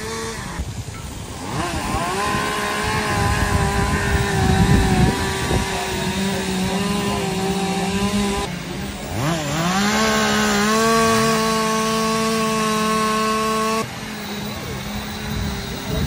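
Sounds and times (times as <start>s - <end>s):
chainsaw engines revving: 0.0s - 16.0s.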